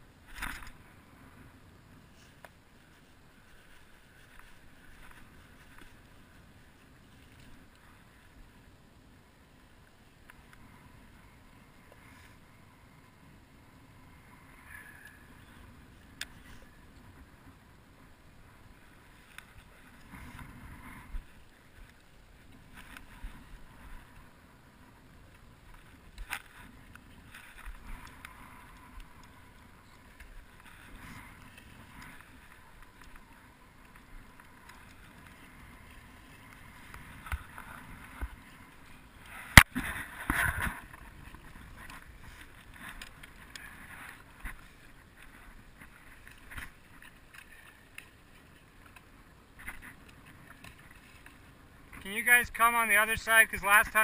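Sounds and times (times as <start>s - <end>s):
faint wind: 0.0s - 54.0s
water around boat: 0.0s - 54.0s.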